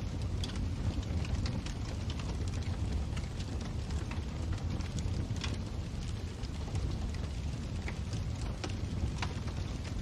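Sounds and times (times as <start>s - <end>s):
fire crackles and pops: 0.0s - 10.0s
low rumble of flames: 0.0s - 10.0s.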